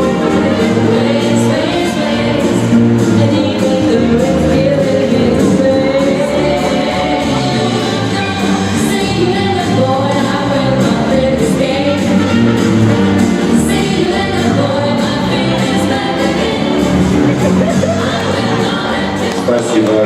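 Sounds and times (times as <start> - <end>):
person singing: 0.0 - 12.4, 13.5 - 20.0
ballroom dance music: 0.0 - 20.0.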